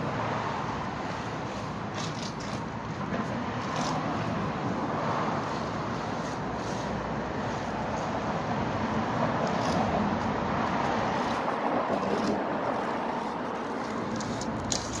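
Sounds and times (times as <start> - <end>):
low rumble of motor vehicles: 0.0 - 15.0.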